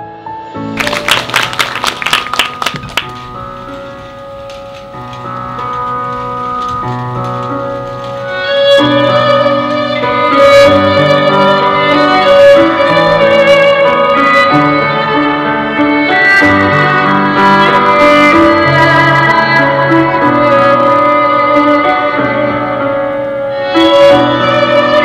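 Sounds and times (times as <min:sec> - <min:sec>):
slow instrumental melody: 0:00.0 - 0:25.0.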